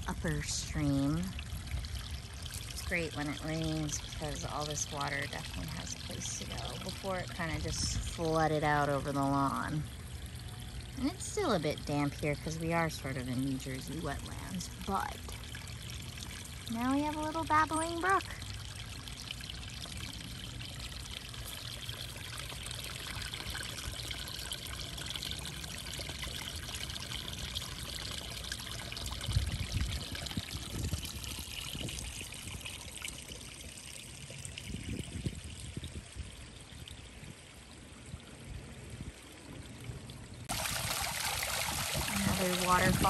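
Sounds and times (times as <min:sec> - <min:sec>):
small waterfall splashing: 0:00.0 - 0:35.2, 0:40.4 - 0:43.0
water trickling over stones: 0:00.0 - 0:43.0.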